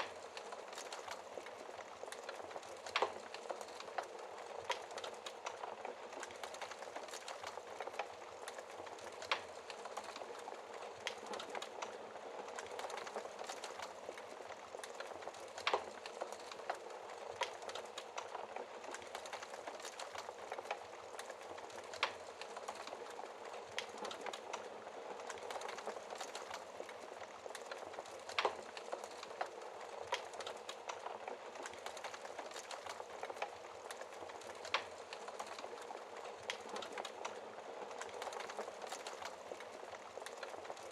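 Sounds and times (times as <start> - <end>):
fire popping: 0.0 - 40.9
wood fire crackling: 0.0 - 40.9.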